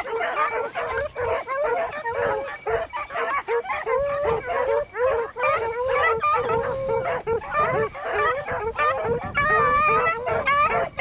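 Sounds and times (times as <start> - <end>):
hounds baying and howling: 0.0 - 11.0.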